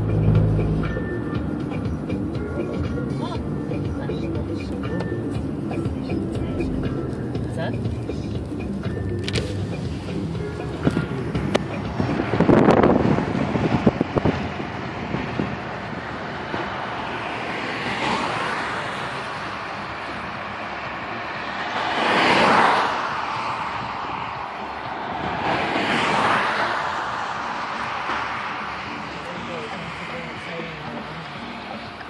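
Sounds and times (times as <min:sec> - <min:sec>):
car road and wind noise: 0:00.0 - 0:32.0.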